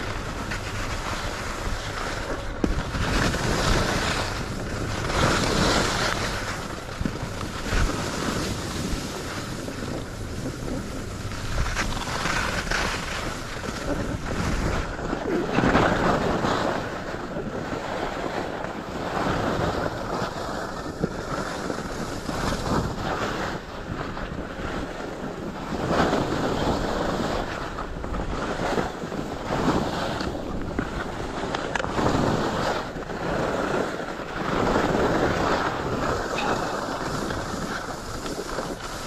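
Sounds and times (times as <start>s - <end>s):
skis scraping over snow: 0.0s - 39.0s
wind on microphone: 0.0s - 39.0s.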